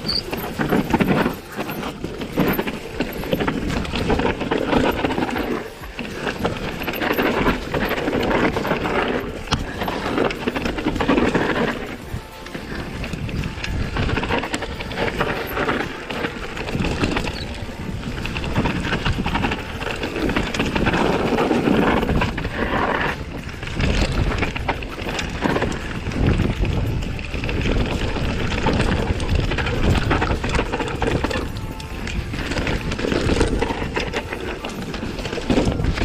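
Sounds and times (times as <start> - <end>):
bike rattling and knocking: 0.0 - 36.0
wind rushing over microphone: 0.0 - 36.0.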